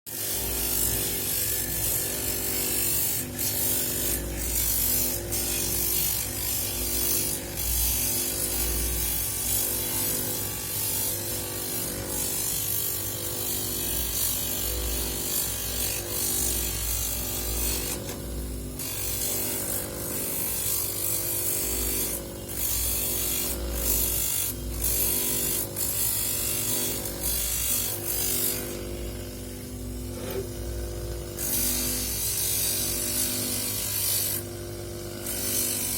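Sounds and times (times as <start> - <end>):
grinding tool motor hum: 0.1 - 35.9.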